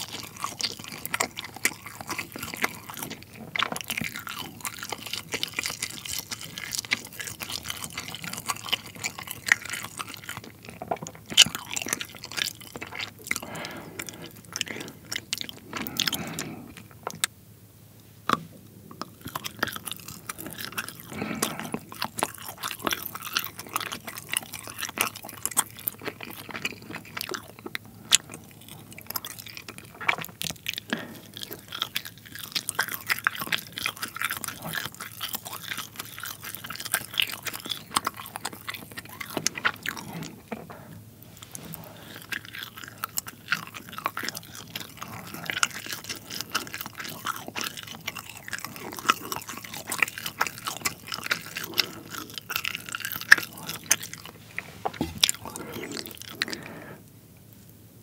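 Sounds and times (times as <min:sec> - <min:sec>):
chewing soft cheese: 0:00.0 - 0:17.4, 0:18.2 - 0:57.8.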